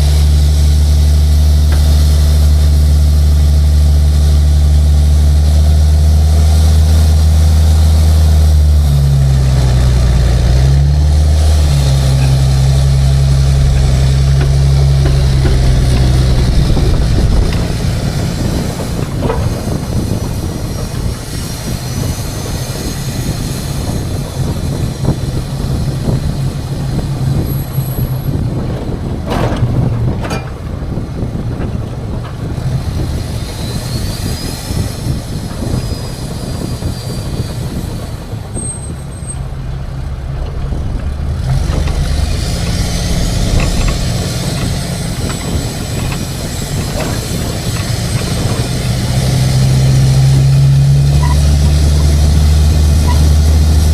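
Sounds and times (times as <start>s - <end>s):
truck engine drone: 0.0s - 53.9s.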